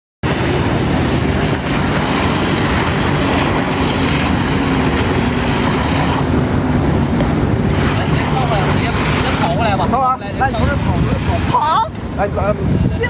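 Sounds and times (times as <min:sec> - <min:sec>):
water rushing: 0:00.2 - 0:13.0
watercraft engine running: 0:00.2 - 0:13.0
wind on microphone: 0:00.2 - 0:13.0.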